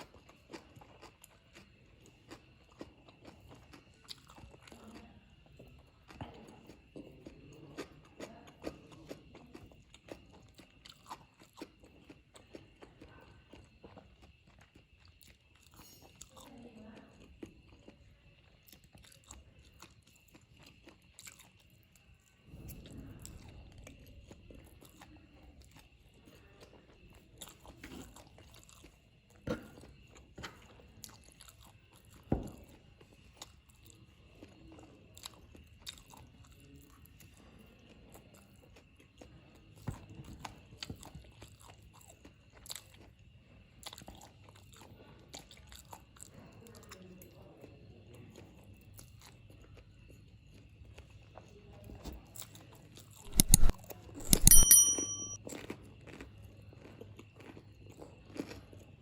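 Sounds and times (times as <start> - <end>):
person chewing noodles: 0.0 - 16.5, 17.2 - 22.4, 23.8 - 39.6, 40.4 - 46.9, 49.0 - 49.7, 55.5 - 59.0.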